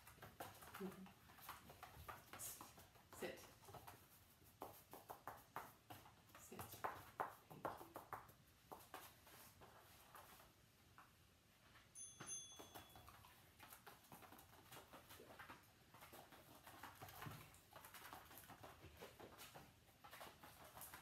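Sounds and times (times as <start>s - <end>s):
dog paws pattering on floor: 0.0s - 21.0s.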